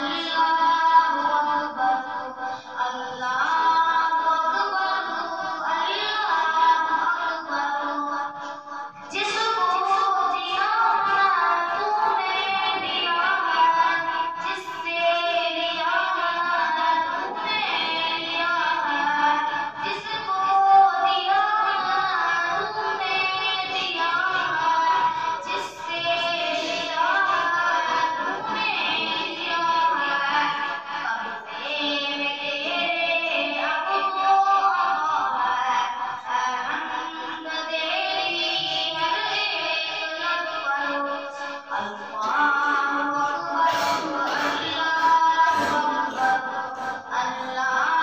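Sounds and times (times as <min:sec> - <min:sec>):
boy singing unaccompanied: 0:00.0 - 0:48.0.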